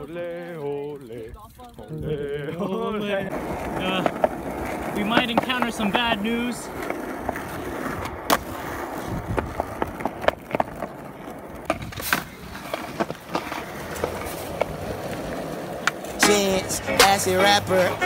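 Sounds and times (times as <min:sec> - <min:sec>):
skateboard wheels rolling on pavement: 0:00.0 - 0:18.0
skateboard clacks: 0:03.2 - 0:18.0.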